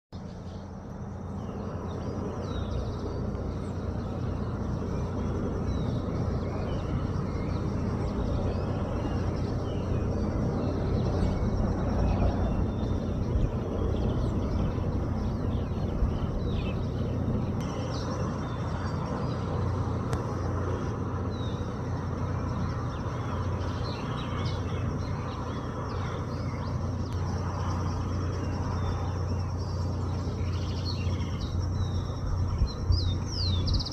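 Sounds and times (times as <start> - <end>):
faint hum: 0.2 - 33.9
low outdoor rumble: 0.2 - 33.9
small birds chirping: 0.2 - 33.9.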